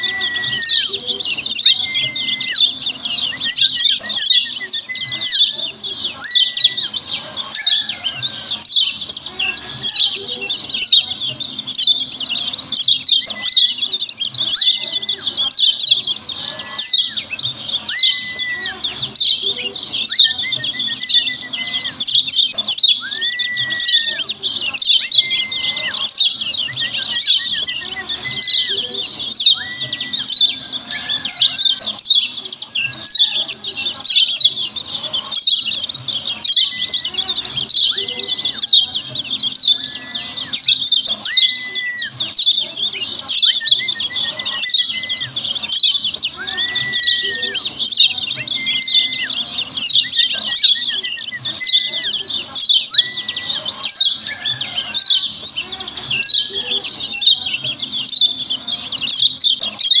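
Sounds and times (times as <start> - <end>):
bird high chirps: 0.0 - 60.0.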